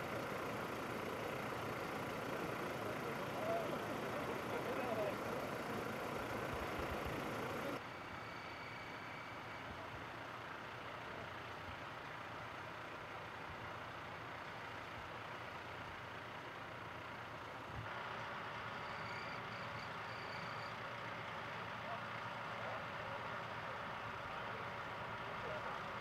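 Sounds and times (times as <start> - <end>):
distant vehicle engines idling: 0.0 - 26.0.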